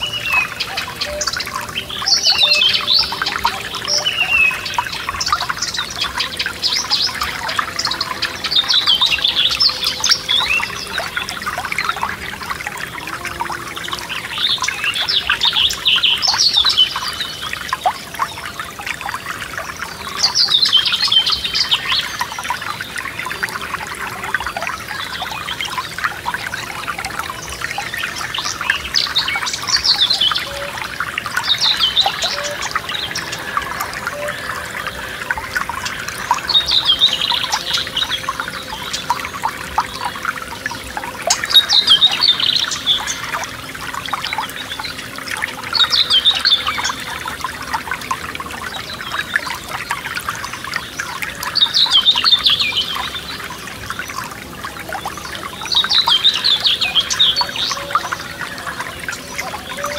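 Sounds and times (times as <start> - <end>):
songbird singing: 0.0 - 59.9
stream babbling over stones: 0.0 - 59.9.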